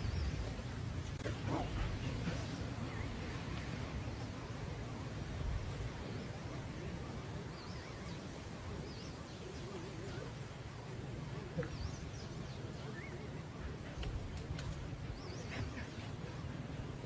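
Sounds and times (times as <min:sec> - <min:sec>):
faint bird chirps: 0:00.0 - 0:17.0
steady background hiss: 0:00.0 - 0:17.0.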